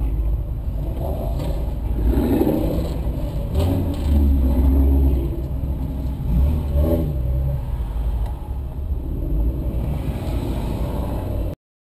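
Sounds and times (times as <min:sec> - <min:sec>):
car engines rumbling: 0:00.0 - 0:11.6.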